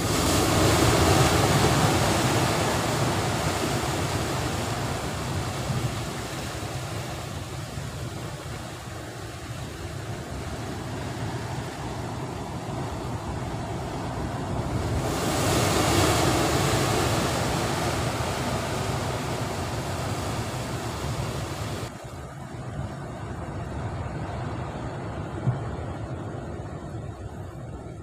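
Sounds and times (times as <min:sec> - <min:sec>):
surf breaking over rocks: 0:00.0 - 0:22.8.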